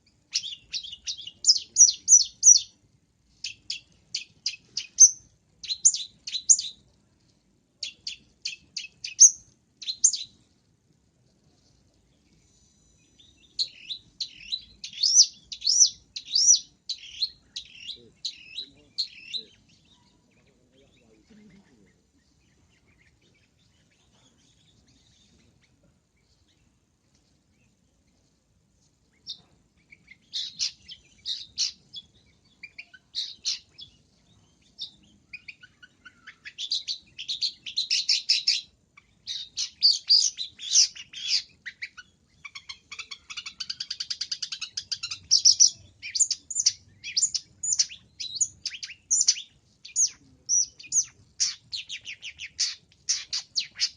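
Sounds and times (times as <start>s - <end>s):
bird singing rapid high chirps: 0.0s - 2.8s, 3.4s - 6.8s, 7.8s - 10.4s, 12.4s - 25.5s, 29.2s - 53.9s.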